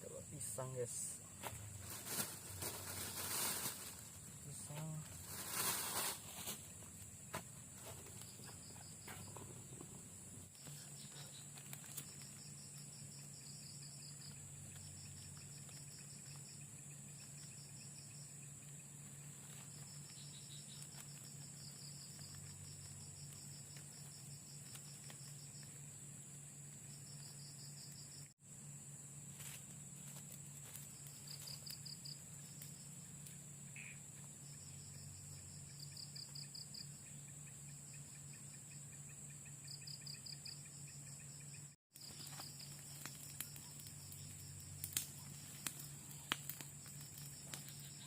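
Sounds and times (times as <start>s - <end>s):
crickets trilling: 0.0s - 48.0s
insects high-pitched drone: 0.0s - 48.0s.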